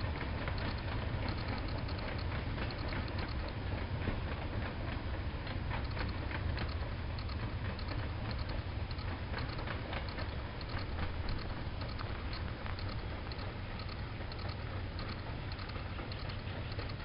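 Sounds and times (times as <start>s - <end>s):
clanks and squeaks of wheels: 0.0s - 17.0s
train rolling past rumble: 0.0s - 17.0s.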